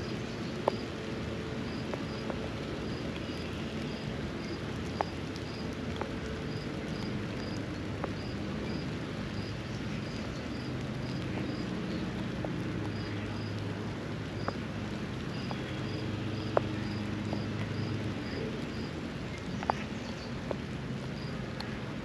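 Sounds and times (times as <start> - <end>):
light rain: 0.0 - 22.0
raindrops ticking: 0.0 - 22.0.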